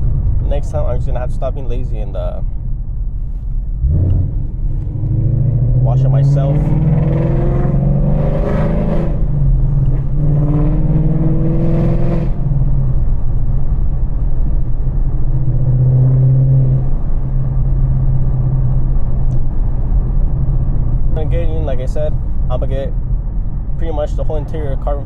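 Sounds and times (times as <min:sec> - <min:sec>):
car exhaust accelerating: 0:00.0 - 0:25.0.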